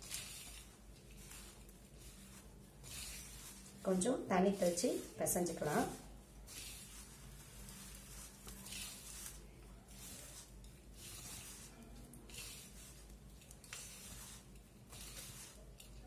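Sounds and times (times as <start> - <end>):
hands kneading dough: 0.0 - 16.0.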